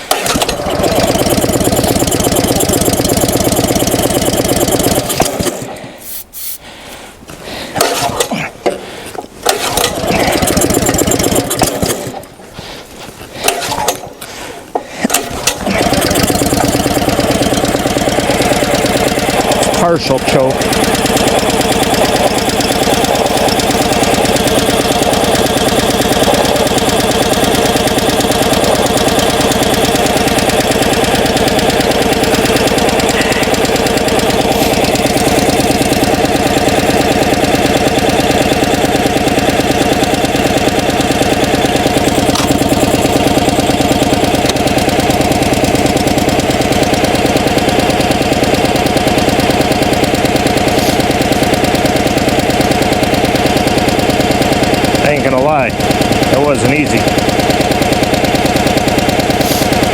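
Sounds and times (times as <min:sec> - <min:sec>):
small gasoline engine running: 0:00.0 - 0:06.0, 0:09.4 - 0:12.4, 0:14.9 - 0:59.9.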